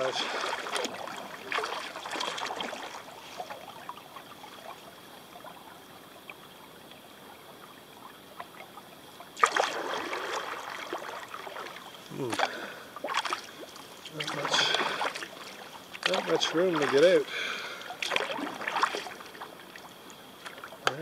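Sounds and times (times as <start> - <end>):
paddle strokes splashing water: 0.0 - 21.0
water dripping and lapping: 0.0 - 21.0.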